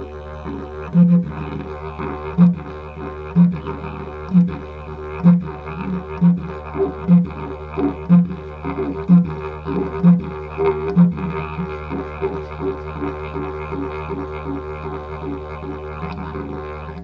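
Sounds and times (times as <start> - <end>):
didgeridoo drone with pulses: 0.0 - 17.0.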